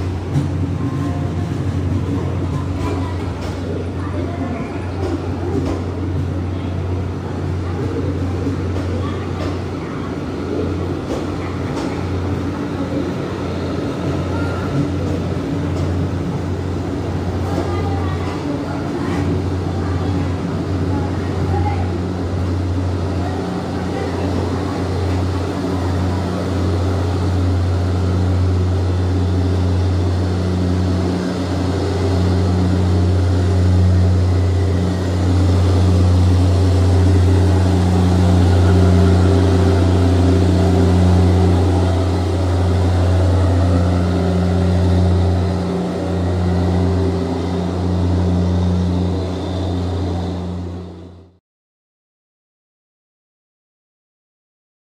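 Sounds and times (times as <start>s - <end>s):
train wheels rumbling on track: 0.0s - 51.4s.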